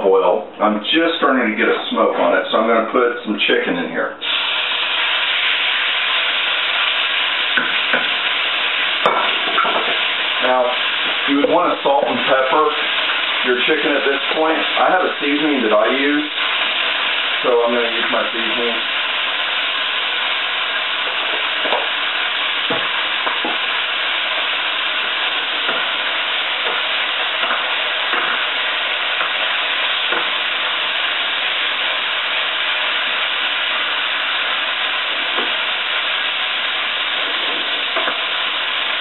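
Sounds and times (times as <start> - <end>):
chicken sizzling in oil: 4.2 - 39.0.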